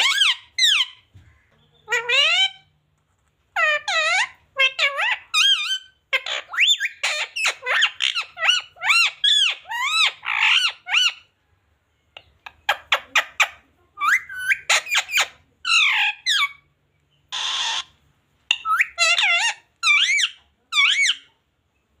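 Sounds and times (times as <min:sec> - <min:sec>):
parrot squawking and chattering: 0:00.0 - 0:02.7, 0:03.4 - 0:11.4, 0:12.1 - 0:21.5.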